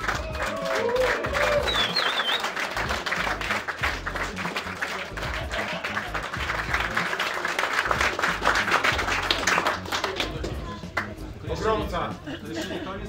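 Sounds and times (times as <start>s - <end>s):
music with pulsing bass: 0.0s - 2.0s, 2.7s - 7.2s, 7.8s - 12.2s
crowd applauding: 0.0s - 11.2s.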